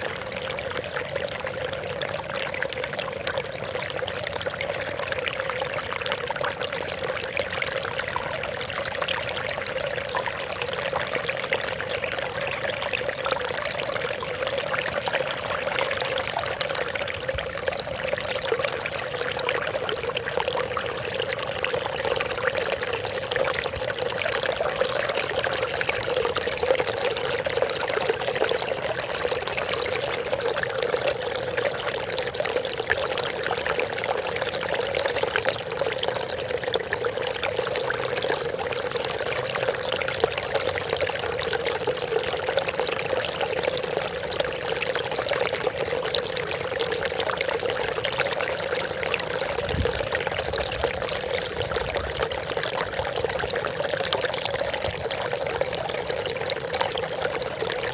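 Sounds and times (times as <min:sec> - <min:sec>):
trickling splashing water: 0:00.0 - 0:57.9.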